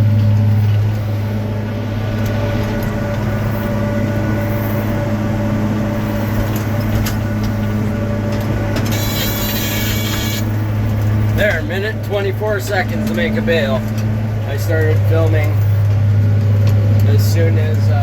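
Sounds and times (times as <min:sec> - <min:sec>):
tractor engine running: 0:00.0 - 0:18.0
round baler forming bale: 0:00.1 - 0:18.0.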